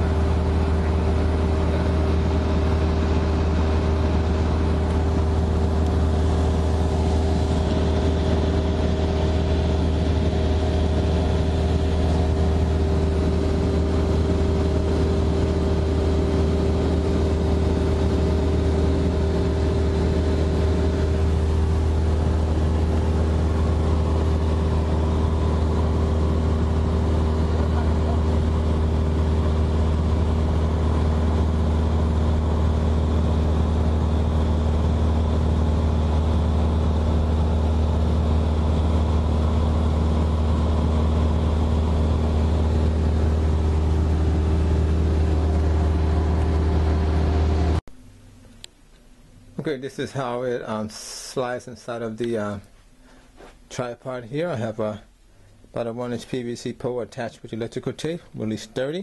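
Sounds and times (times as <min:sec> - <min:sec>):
propeller airplane engine drone: 0:00.0 - 0:50.2.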